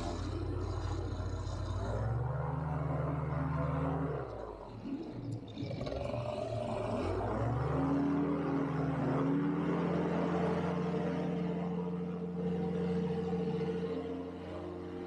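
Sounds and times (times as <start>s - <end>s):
paramotor engine revving: 0.0s - 15.0s.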